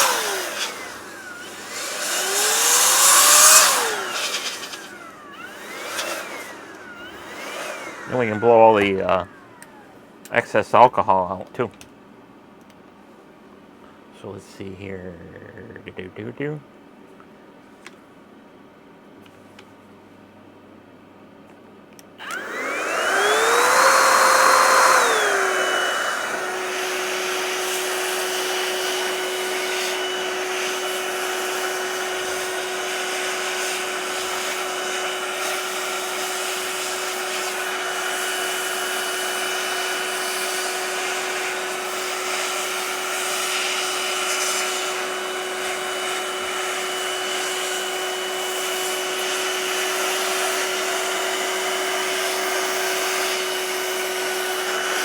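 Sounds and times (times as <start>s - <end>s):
air blower motor whine: 0.0s - 11.4s, 22.0s - 55.0s.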